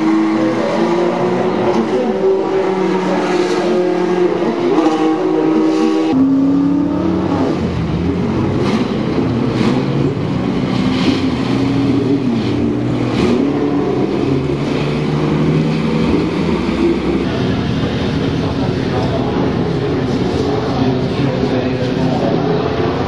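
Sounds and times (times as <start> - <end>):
other racing car engine: 0.0 - 23.0
racing car engine at low revs: 0.0 - 23.0.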